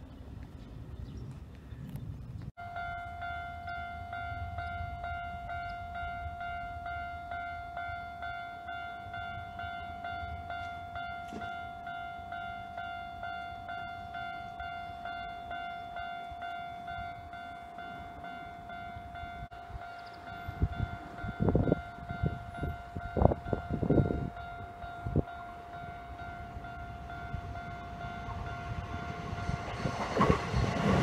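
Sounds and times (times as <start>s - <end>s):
level crossing warning bell ringing: 2.6s - 31.0s.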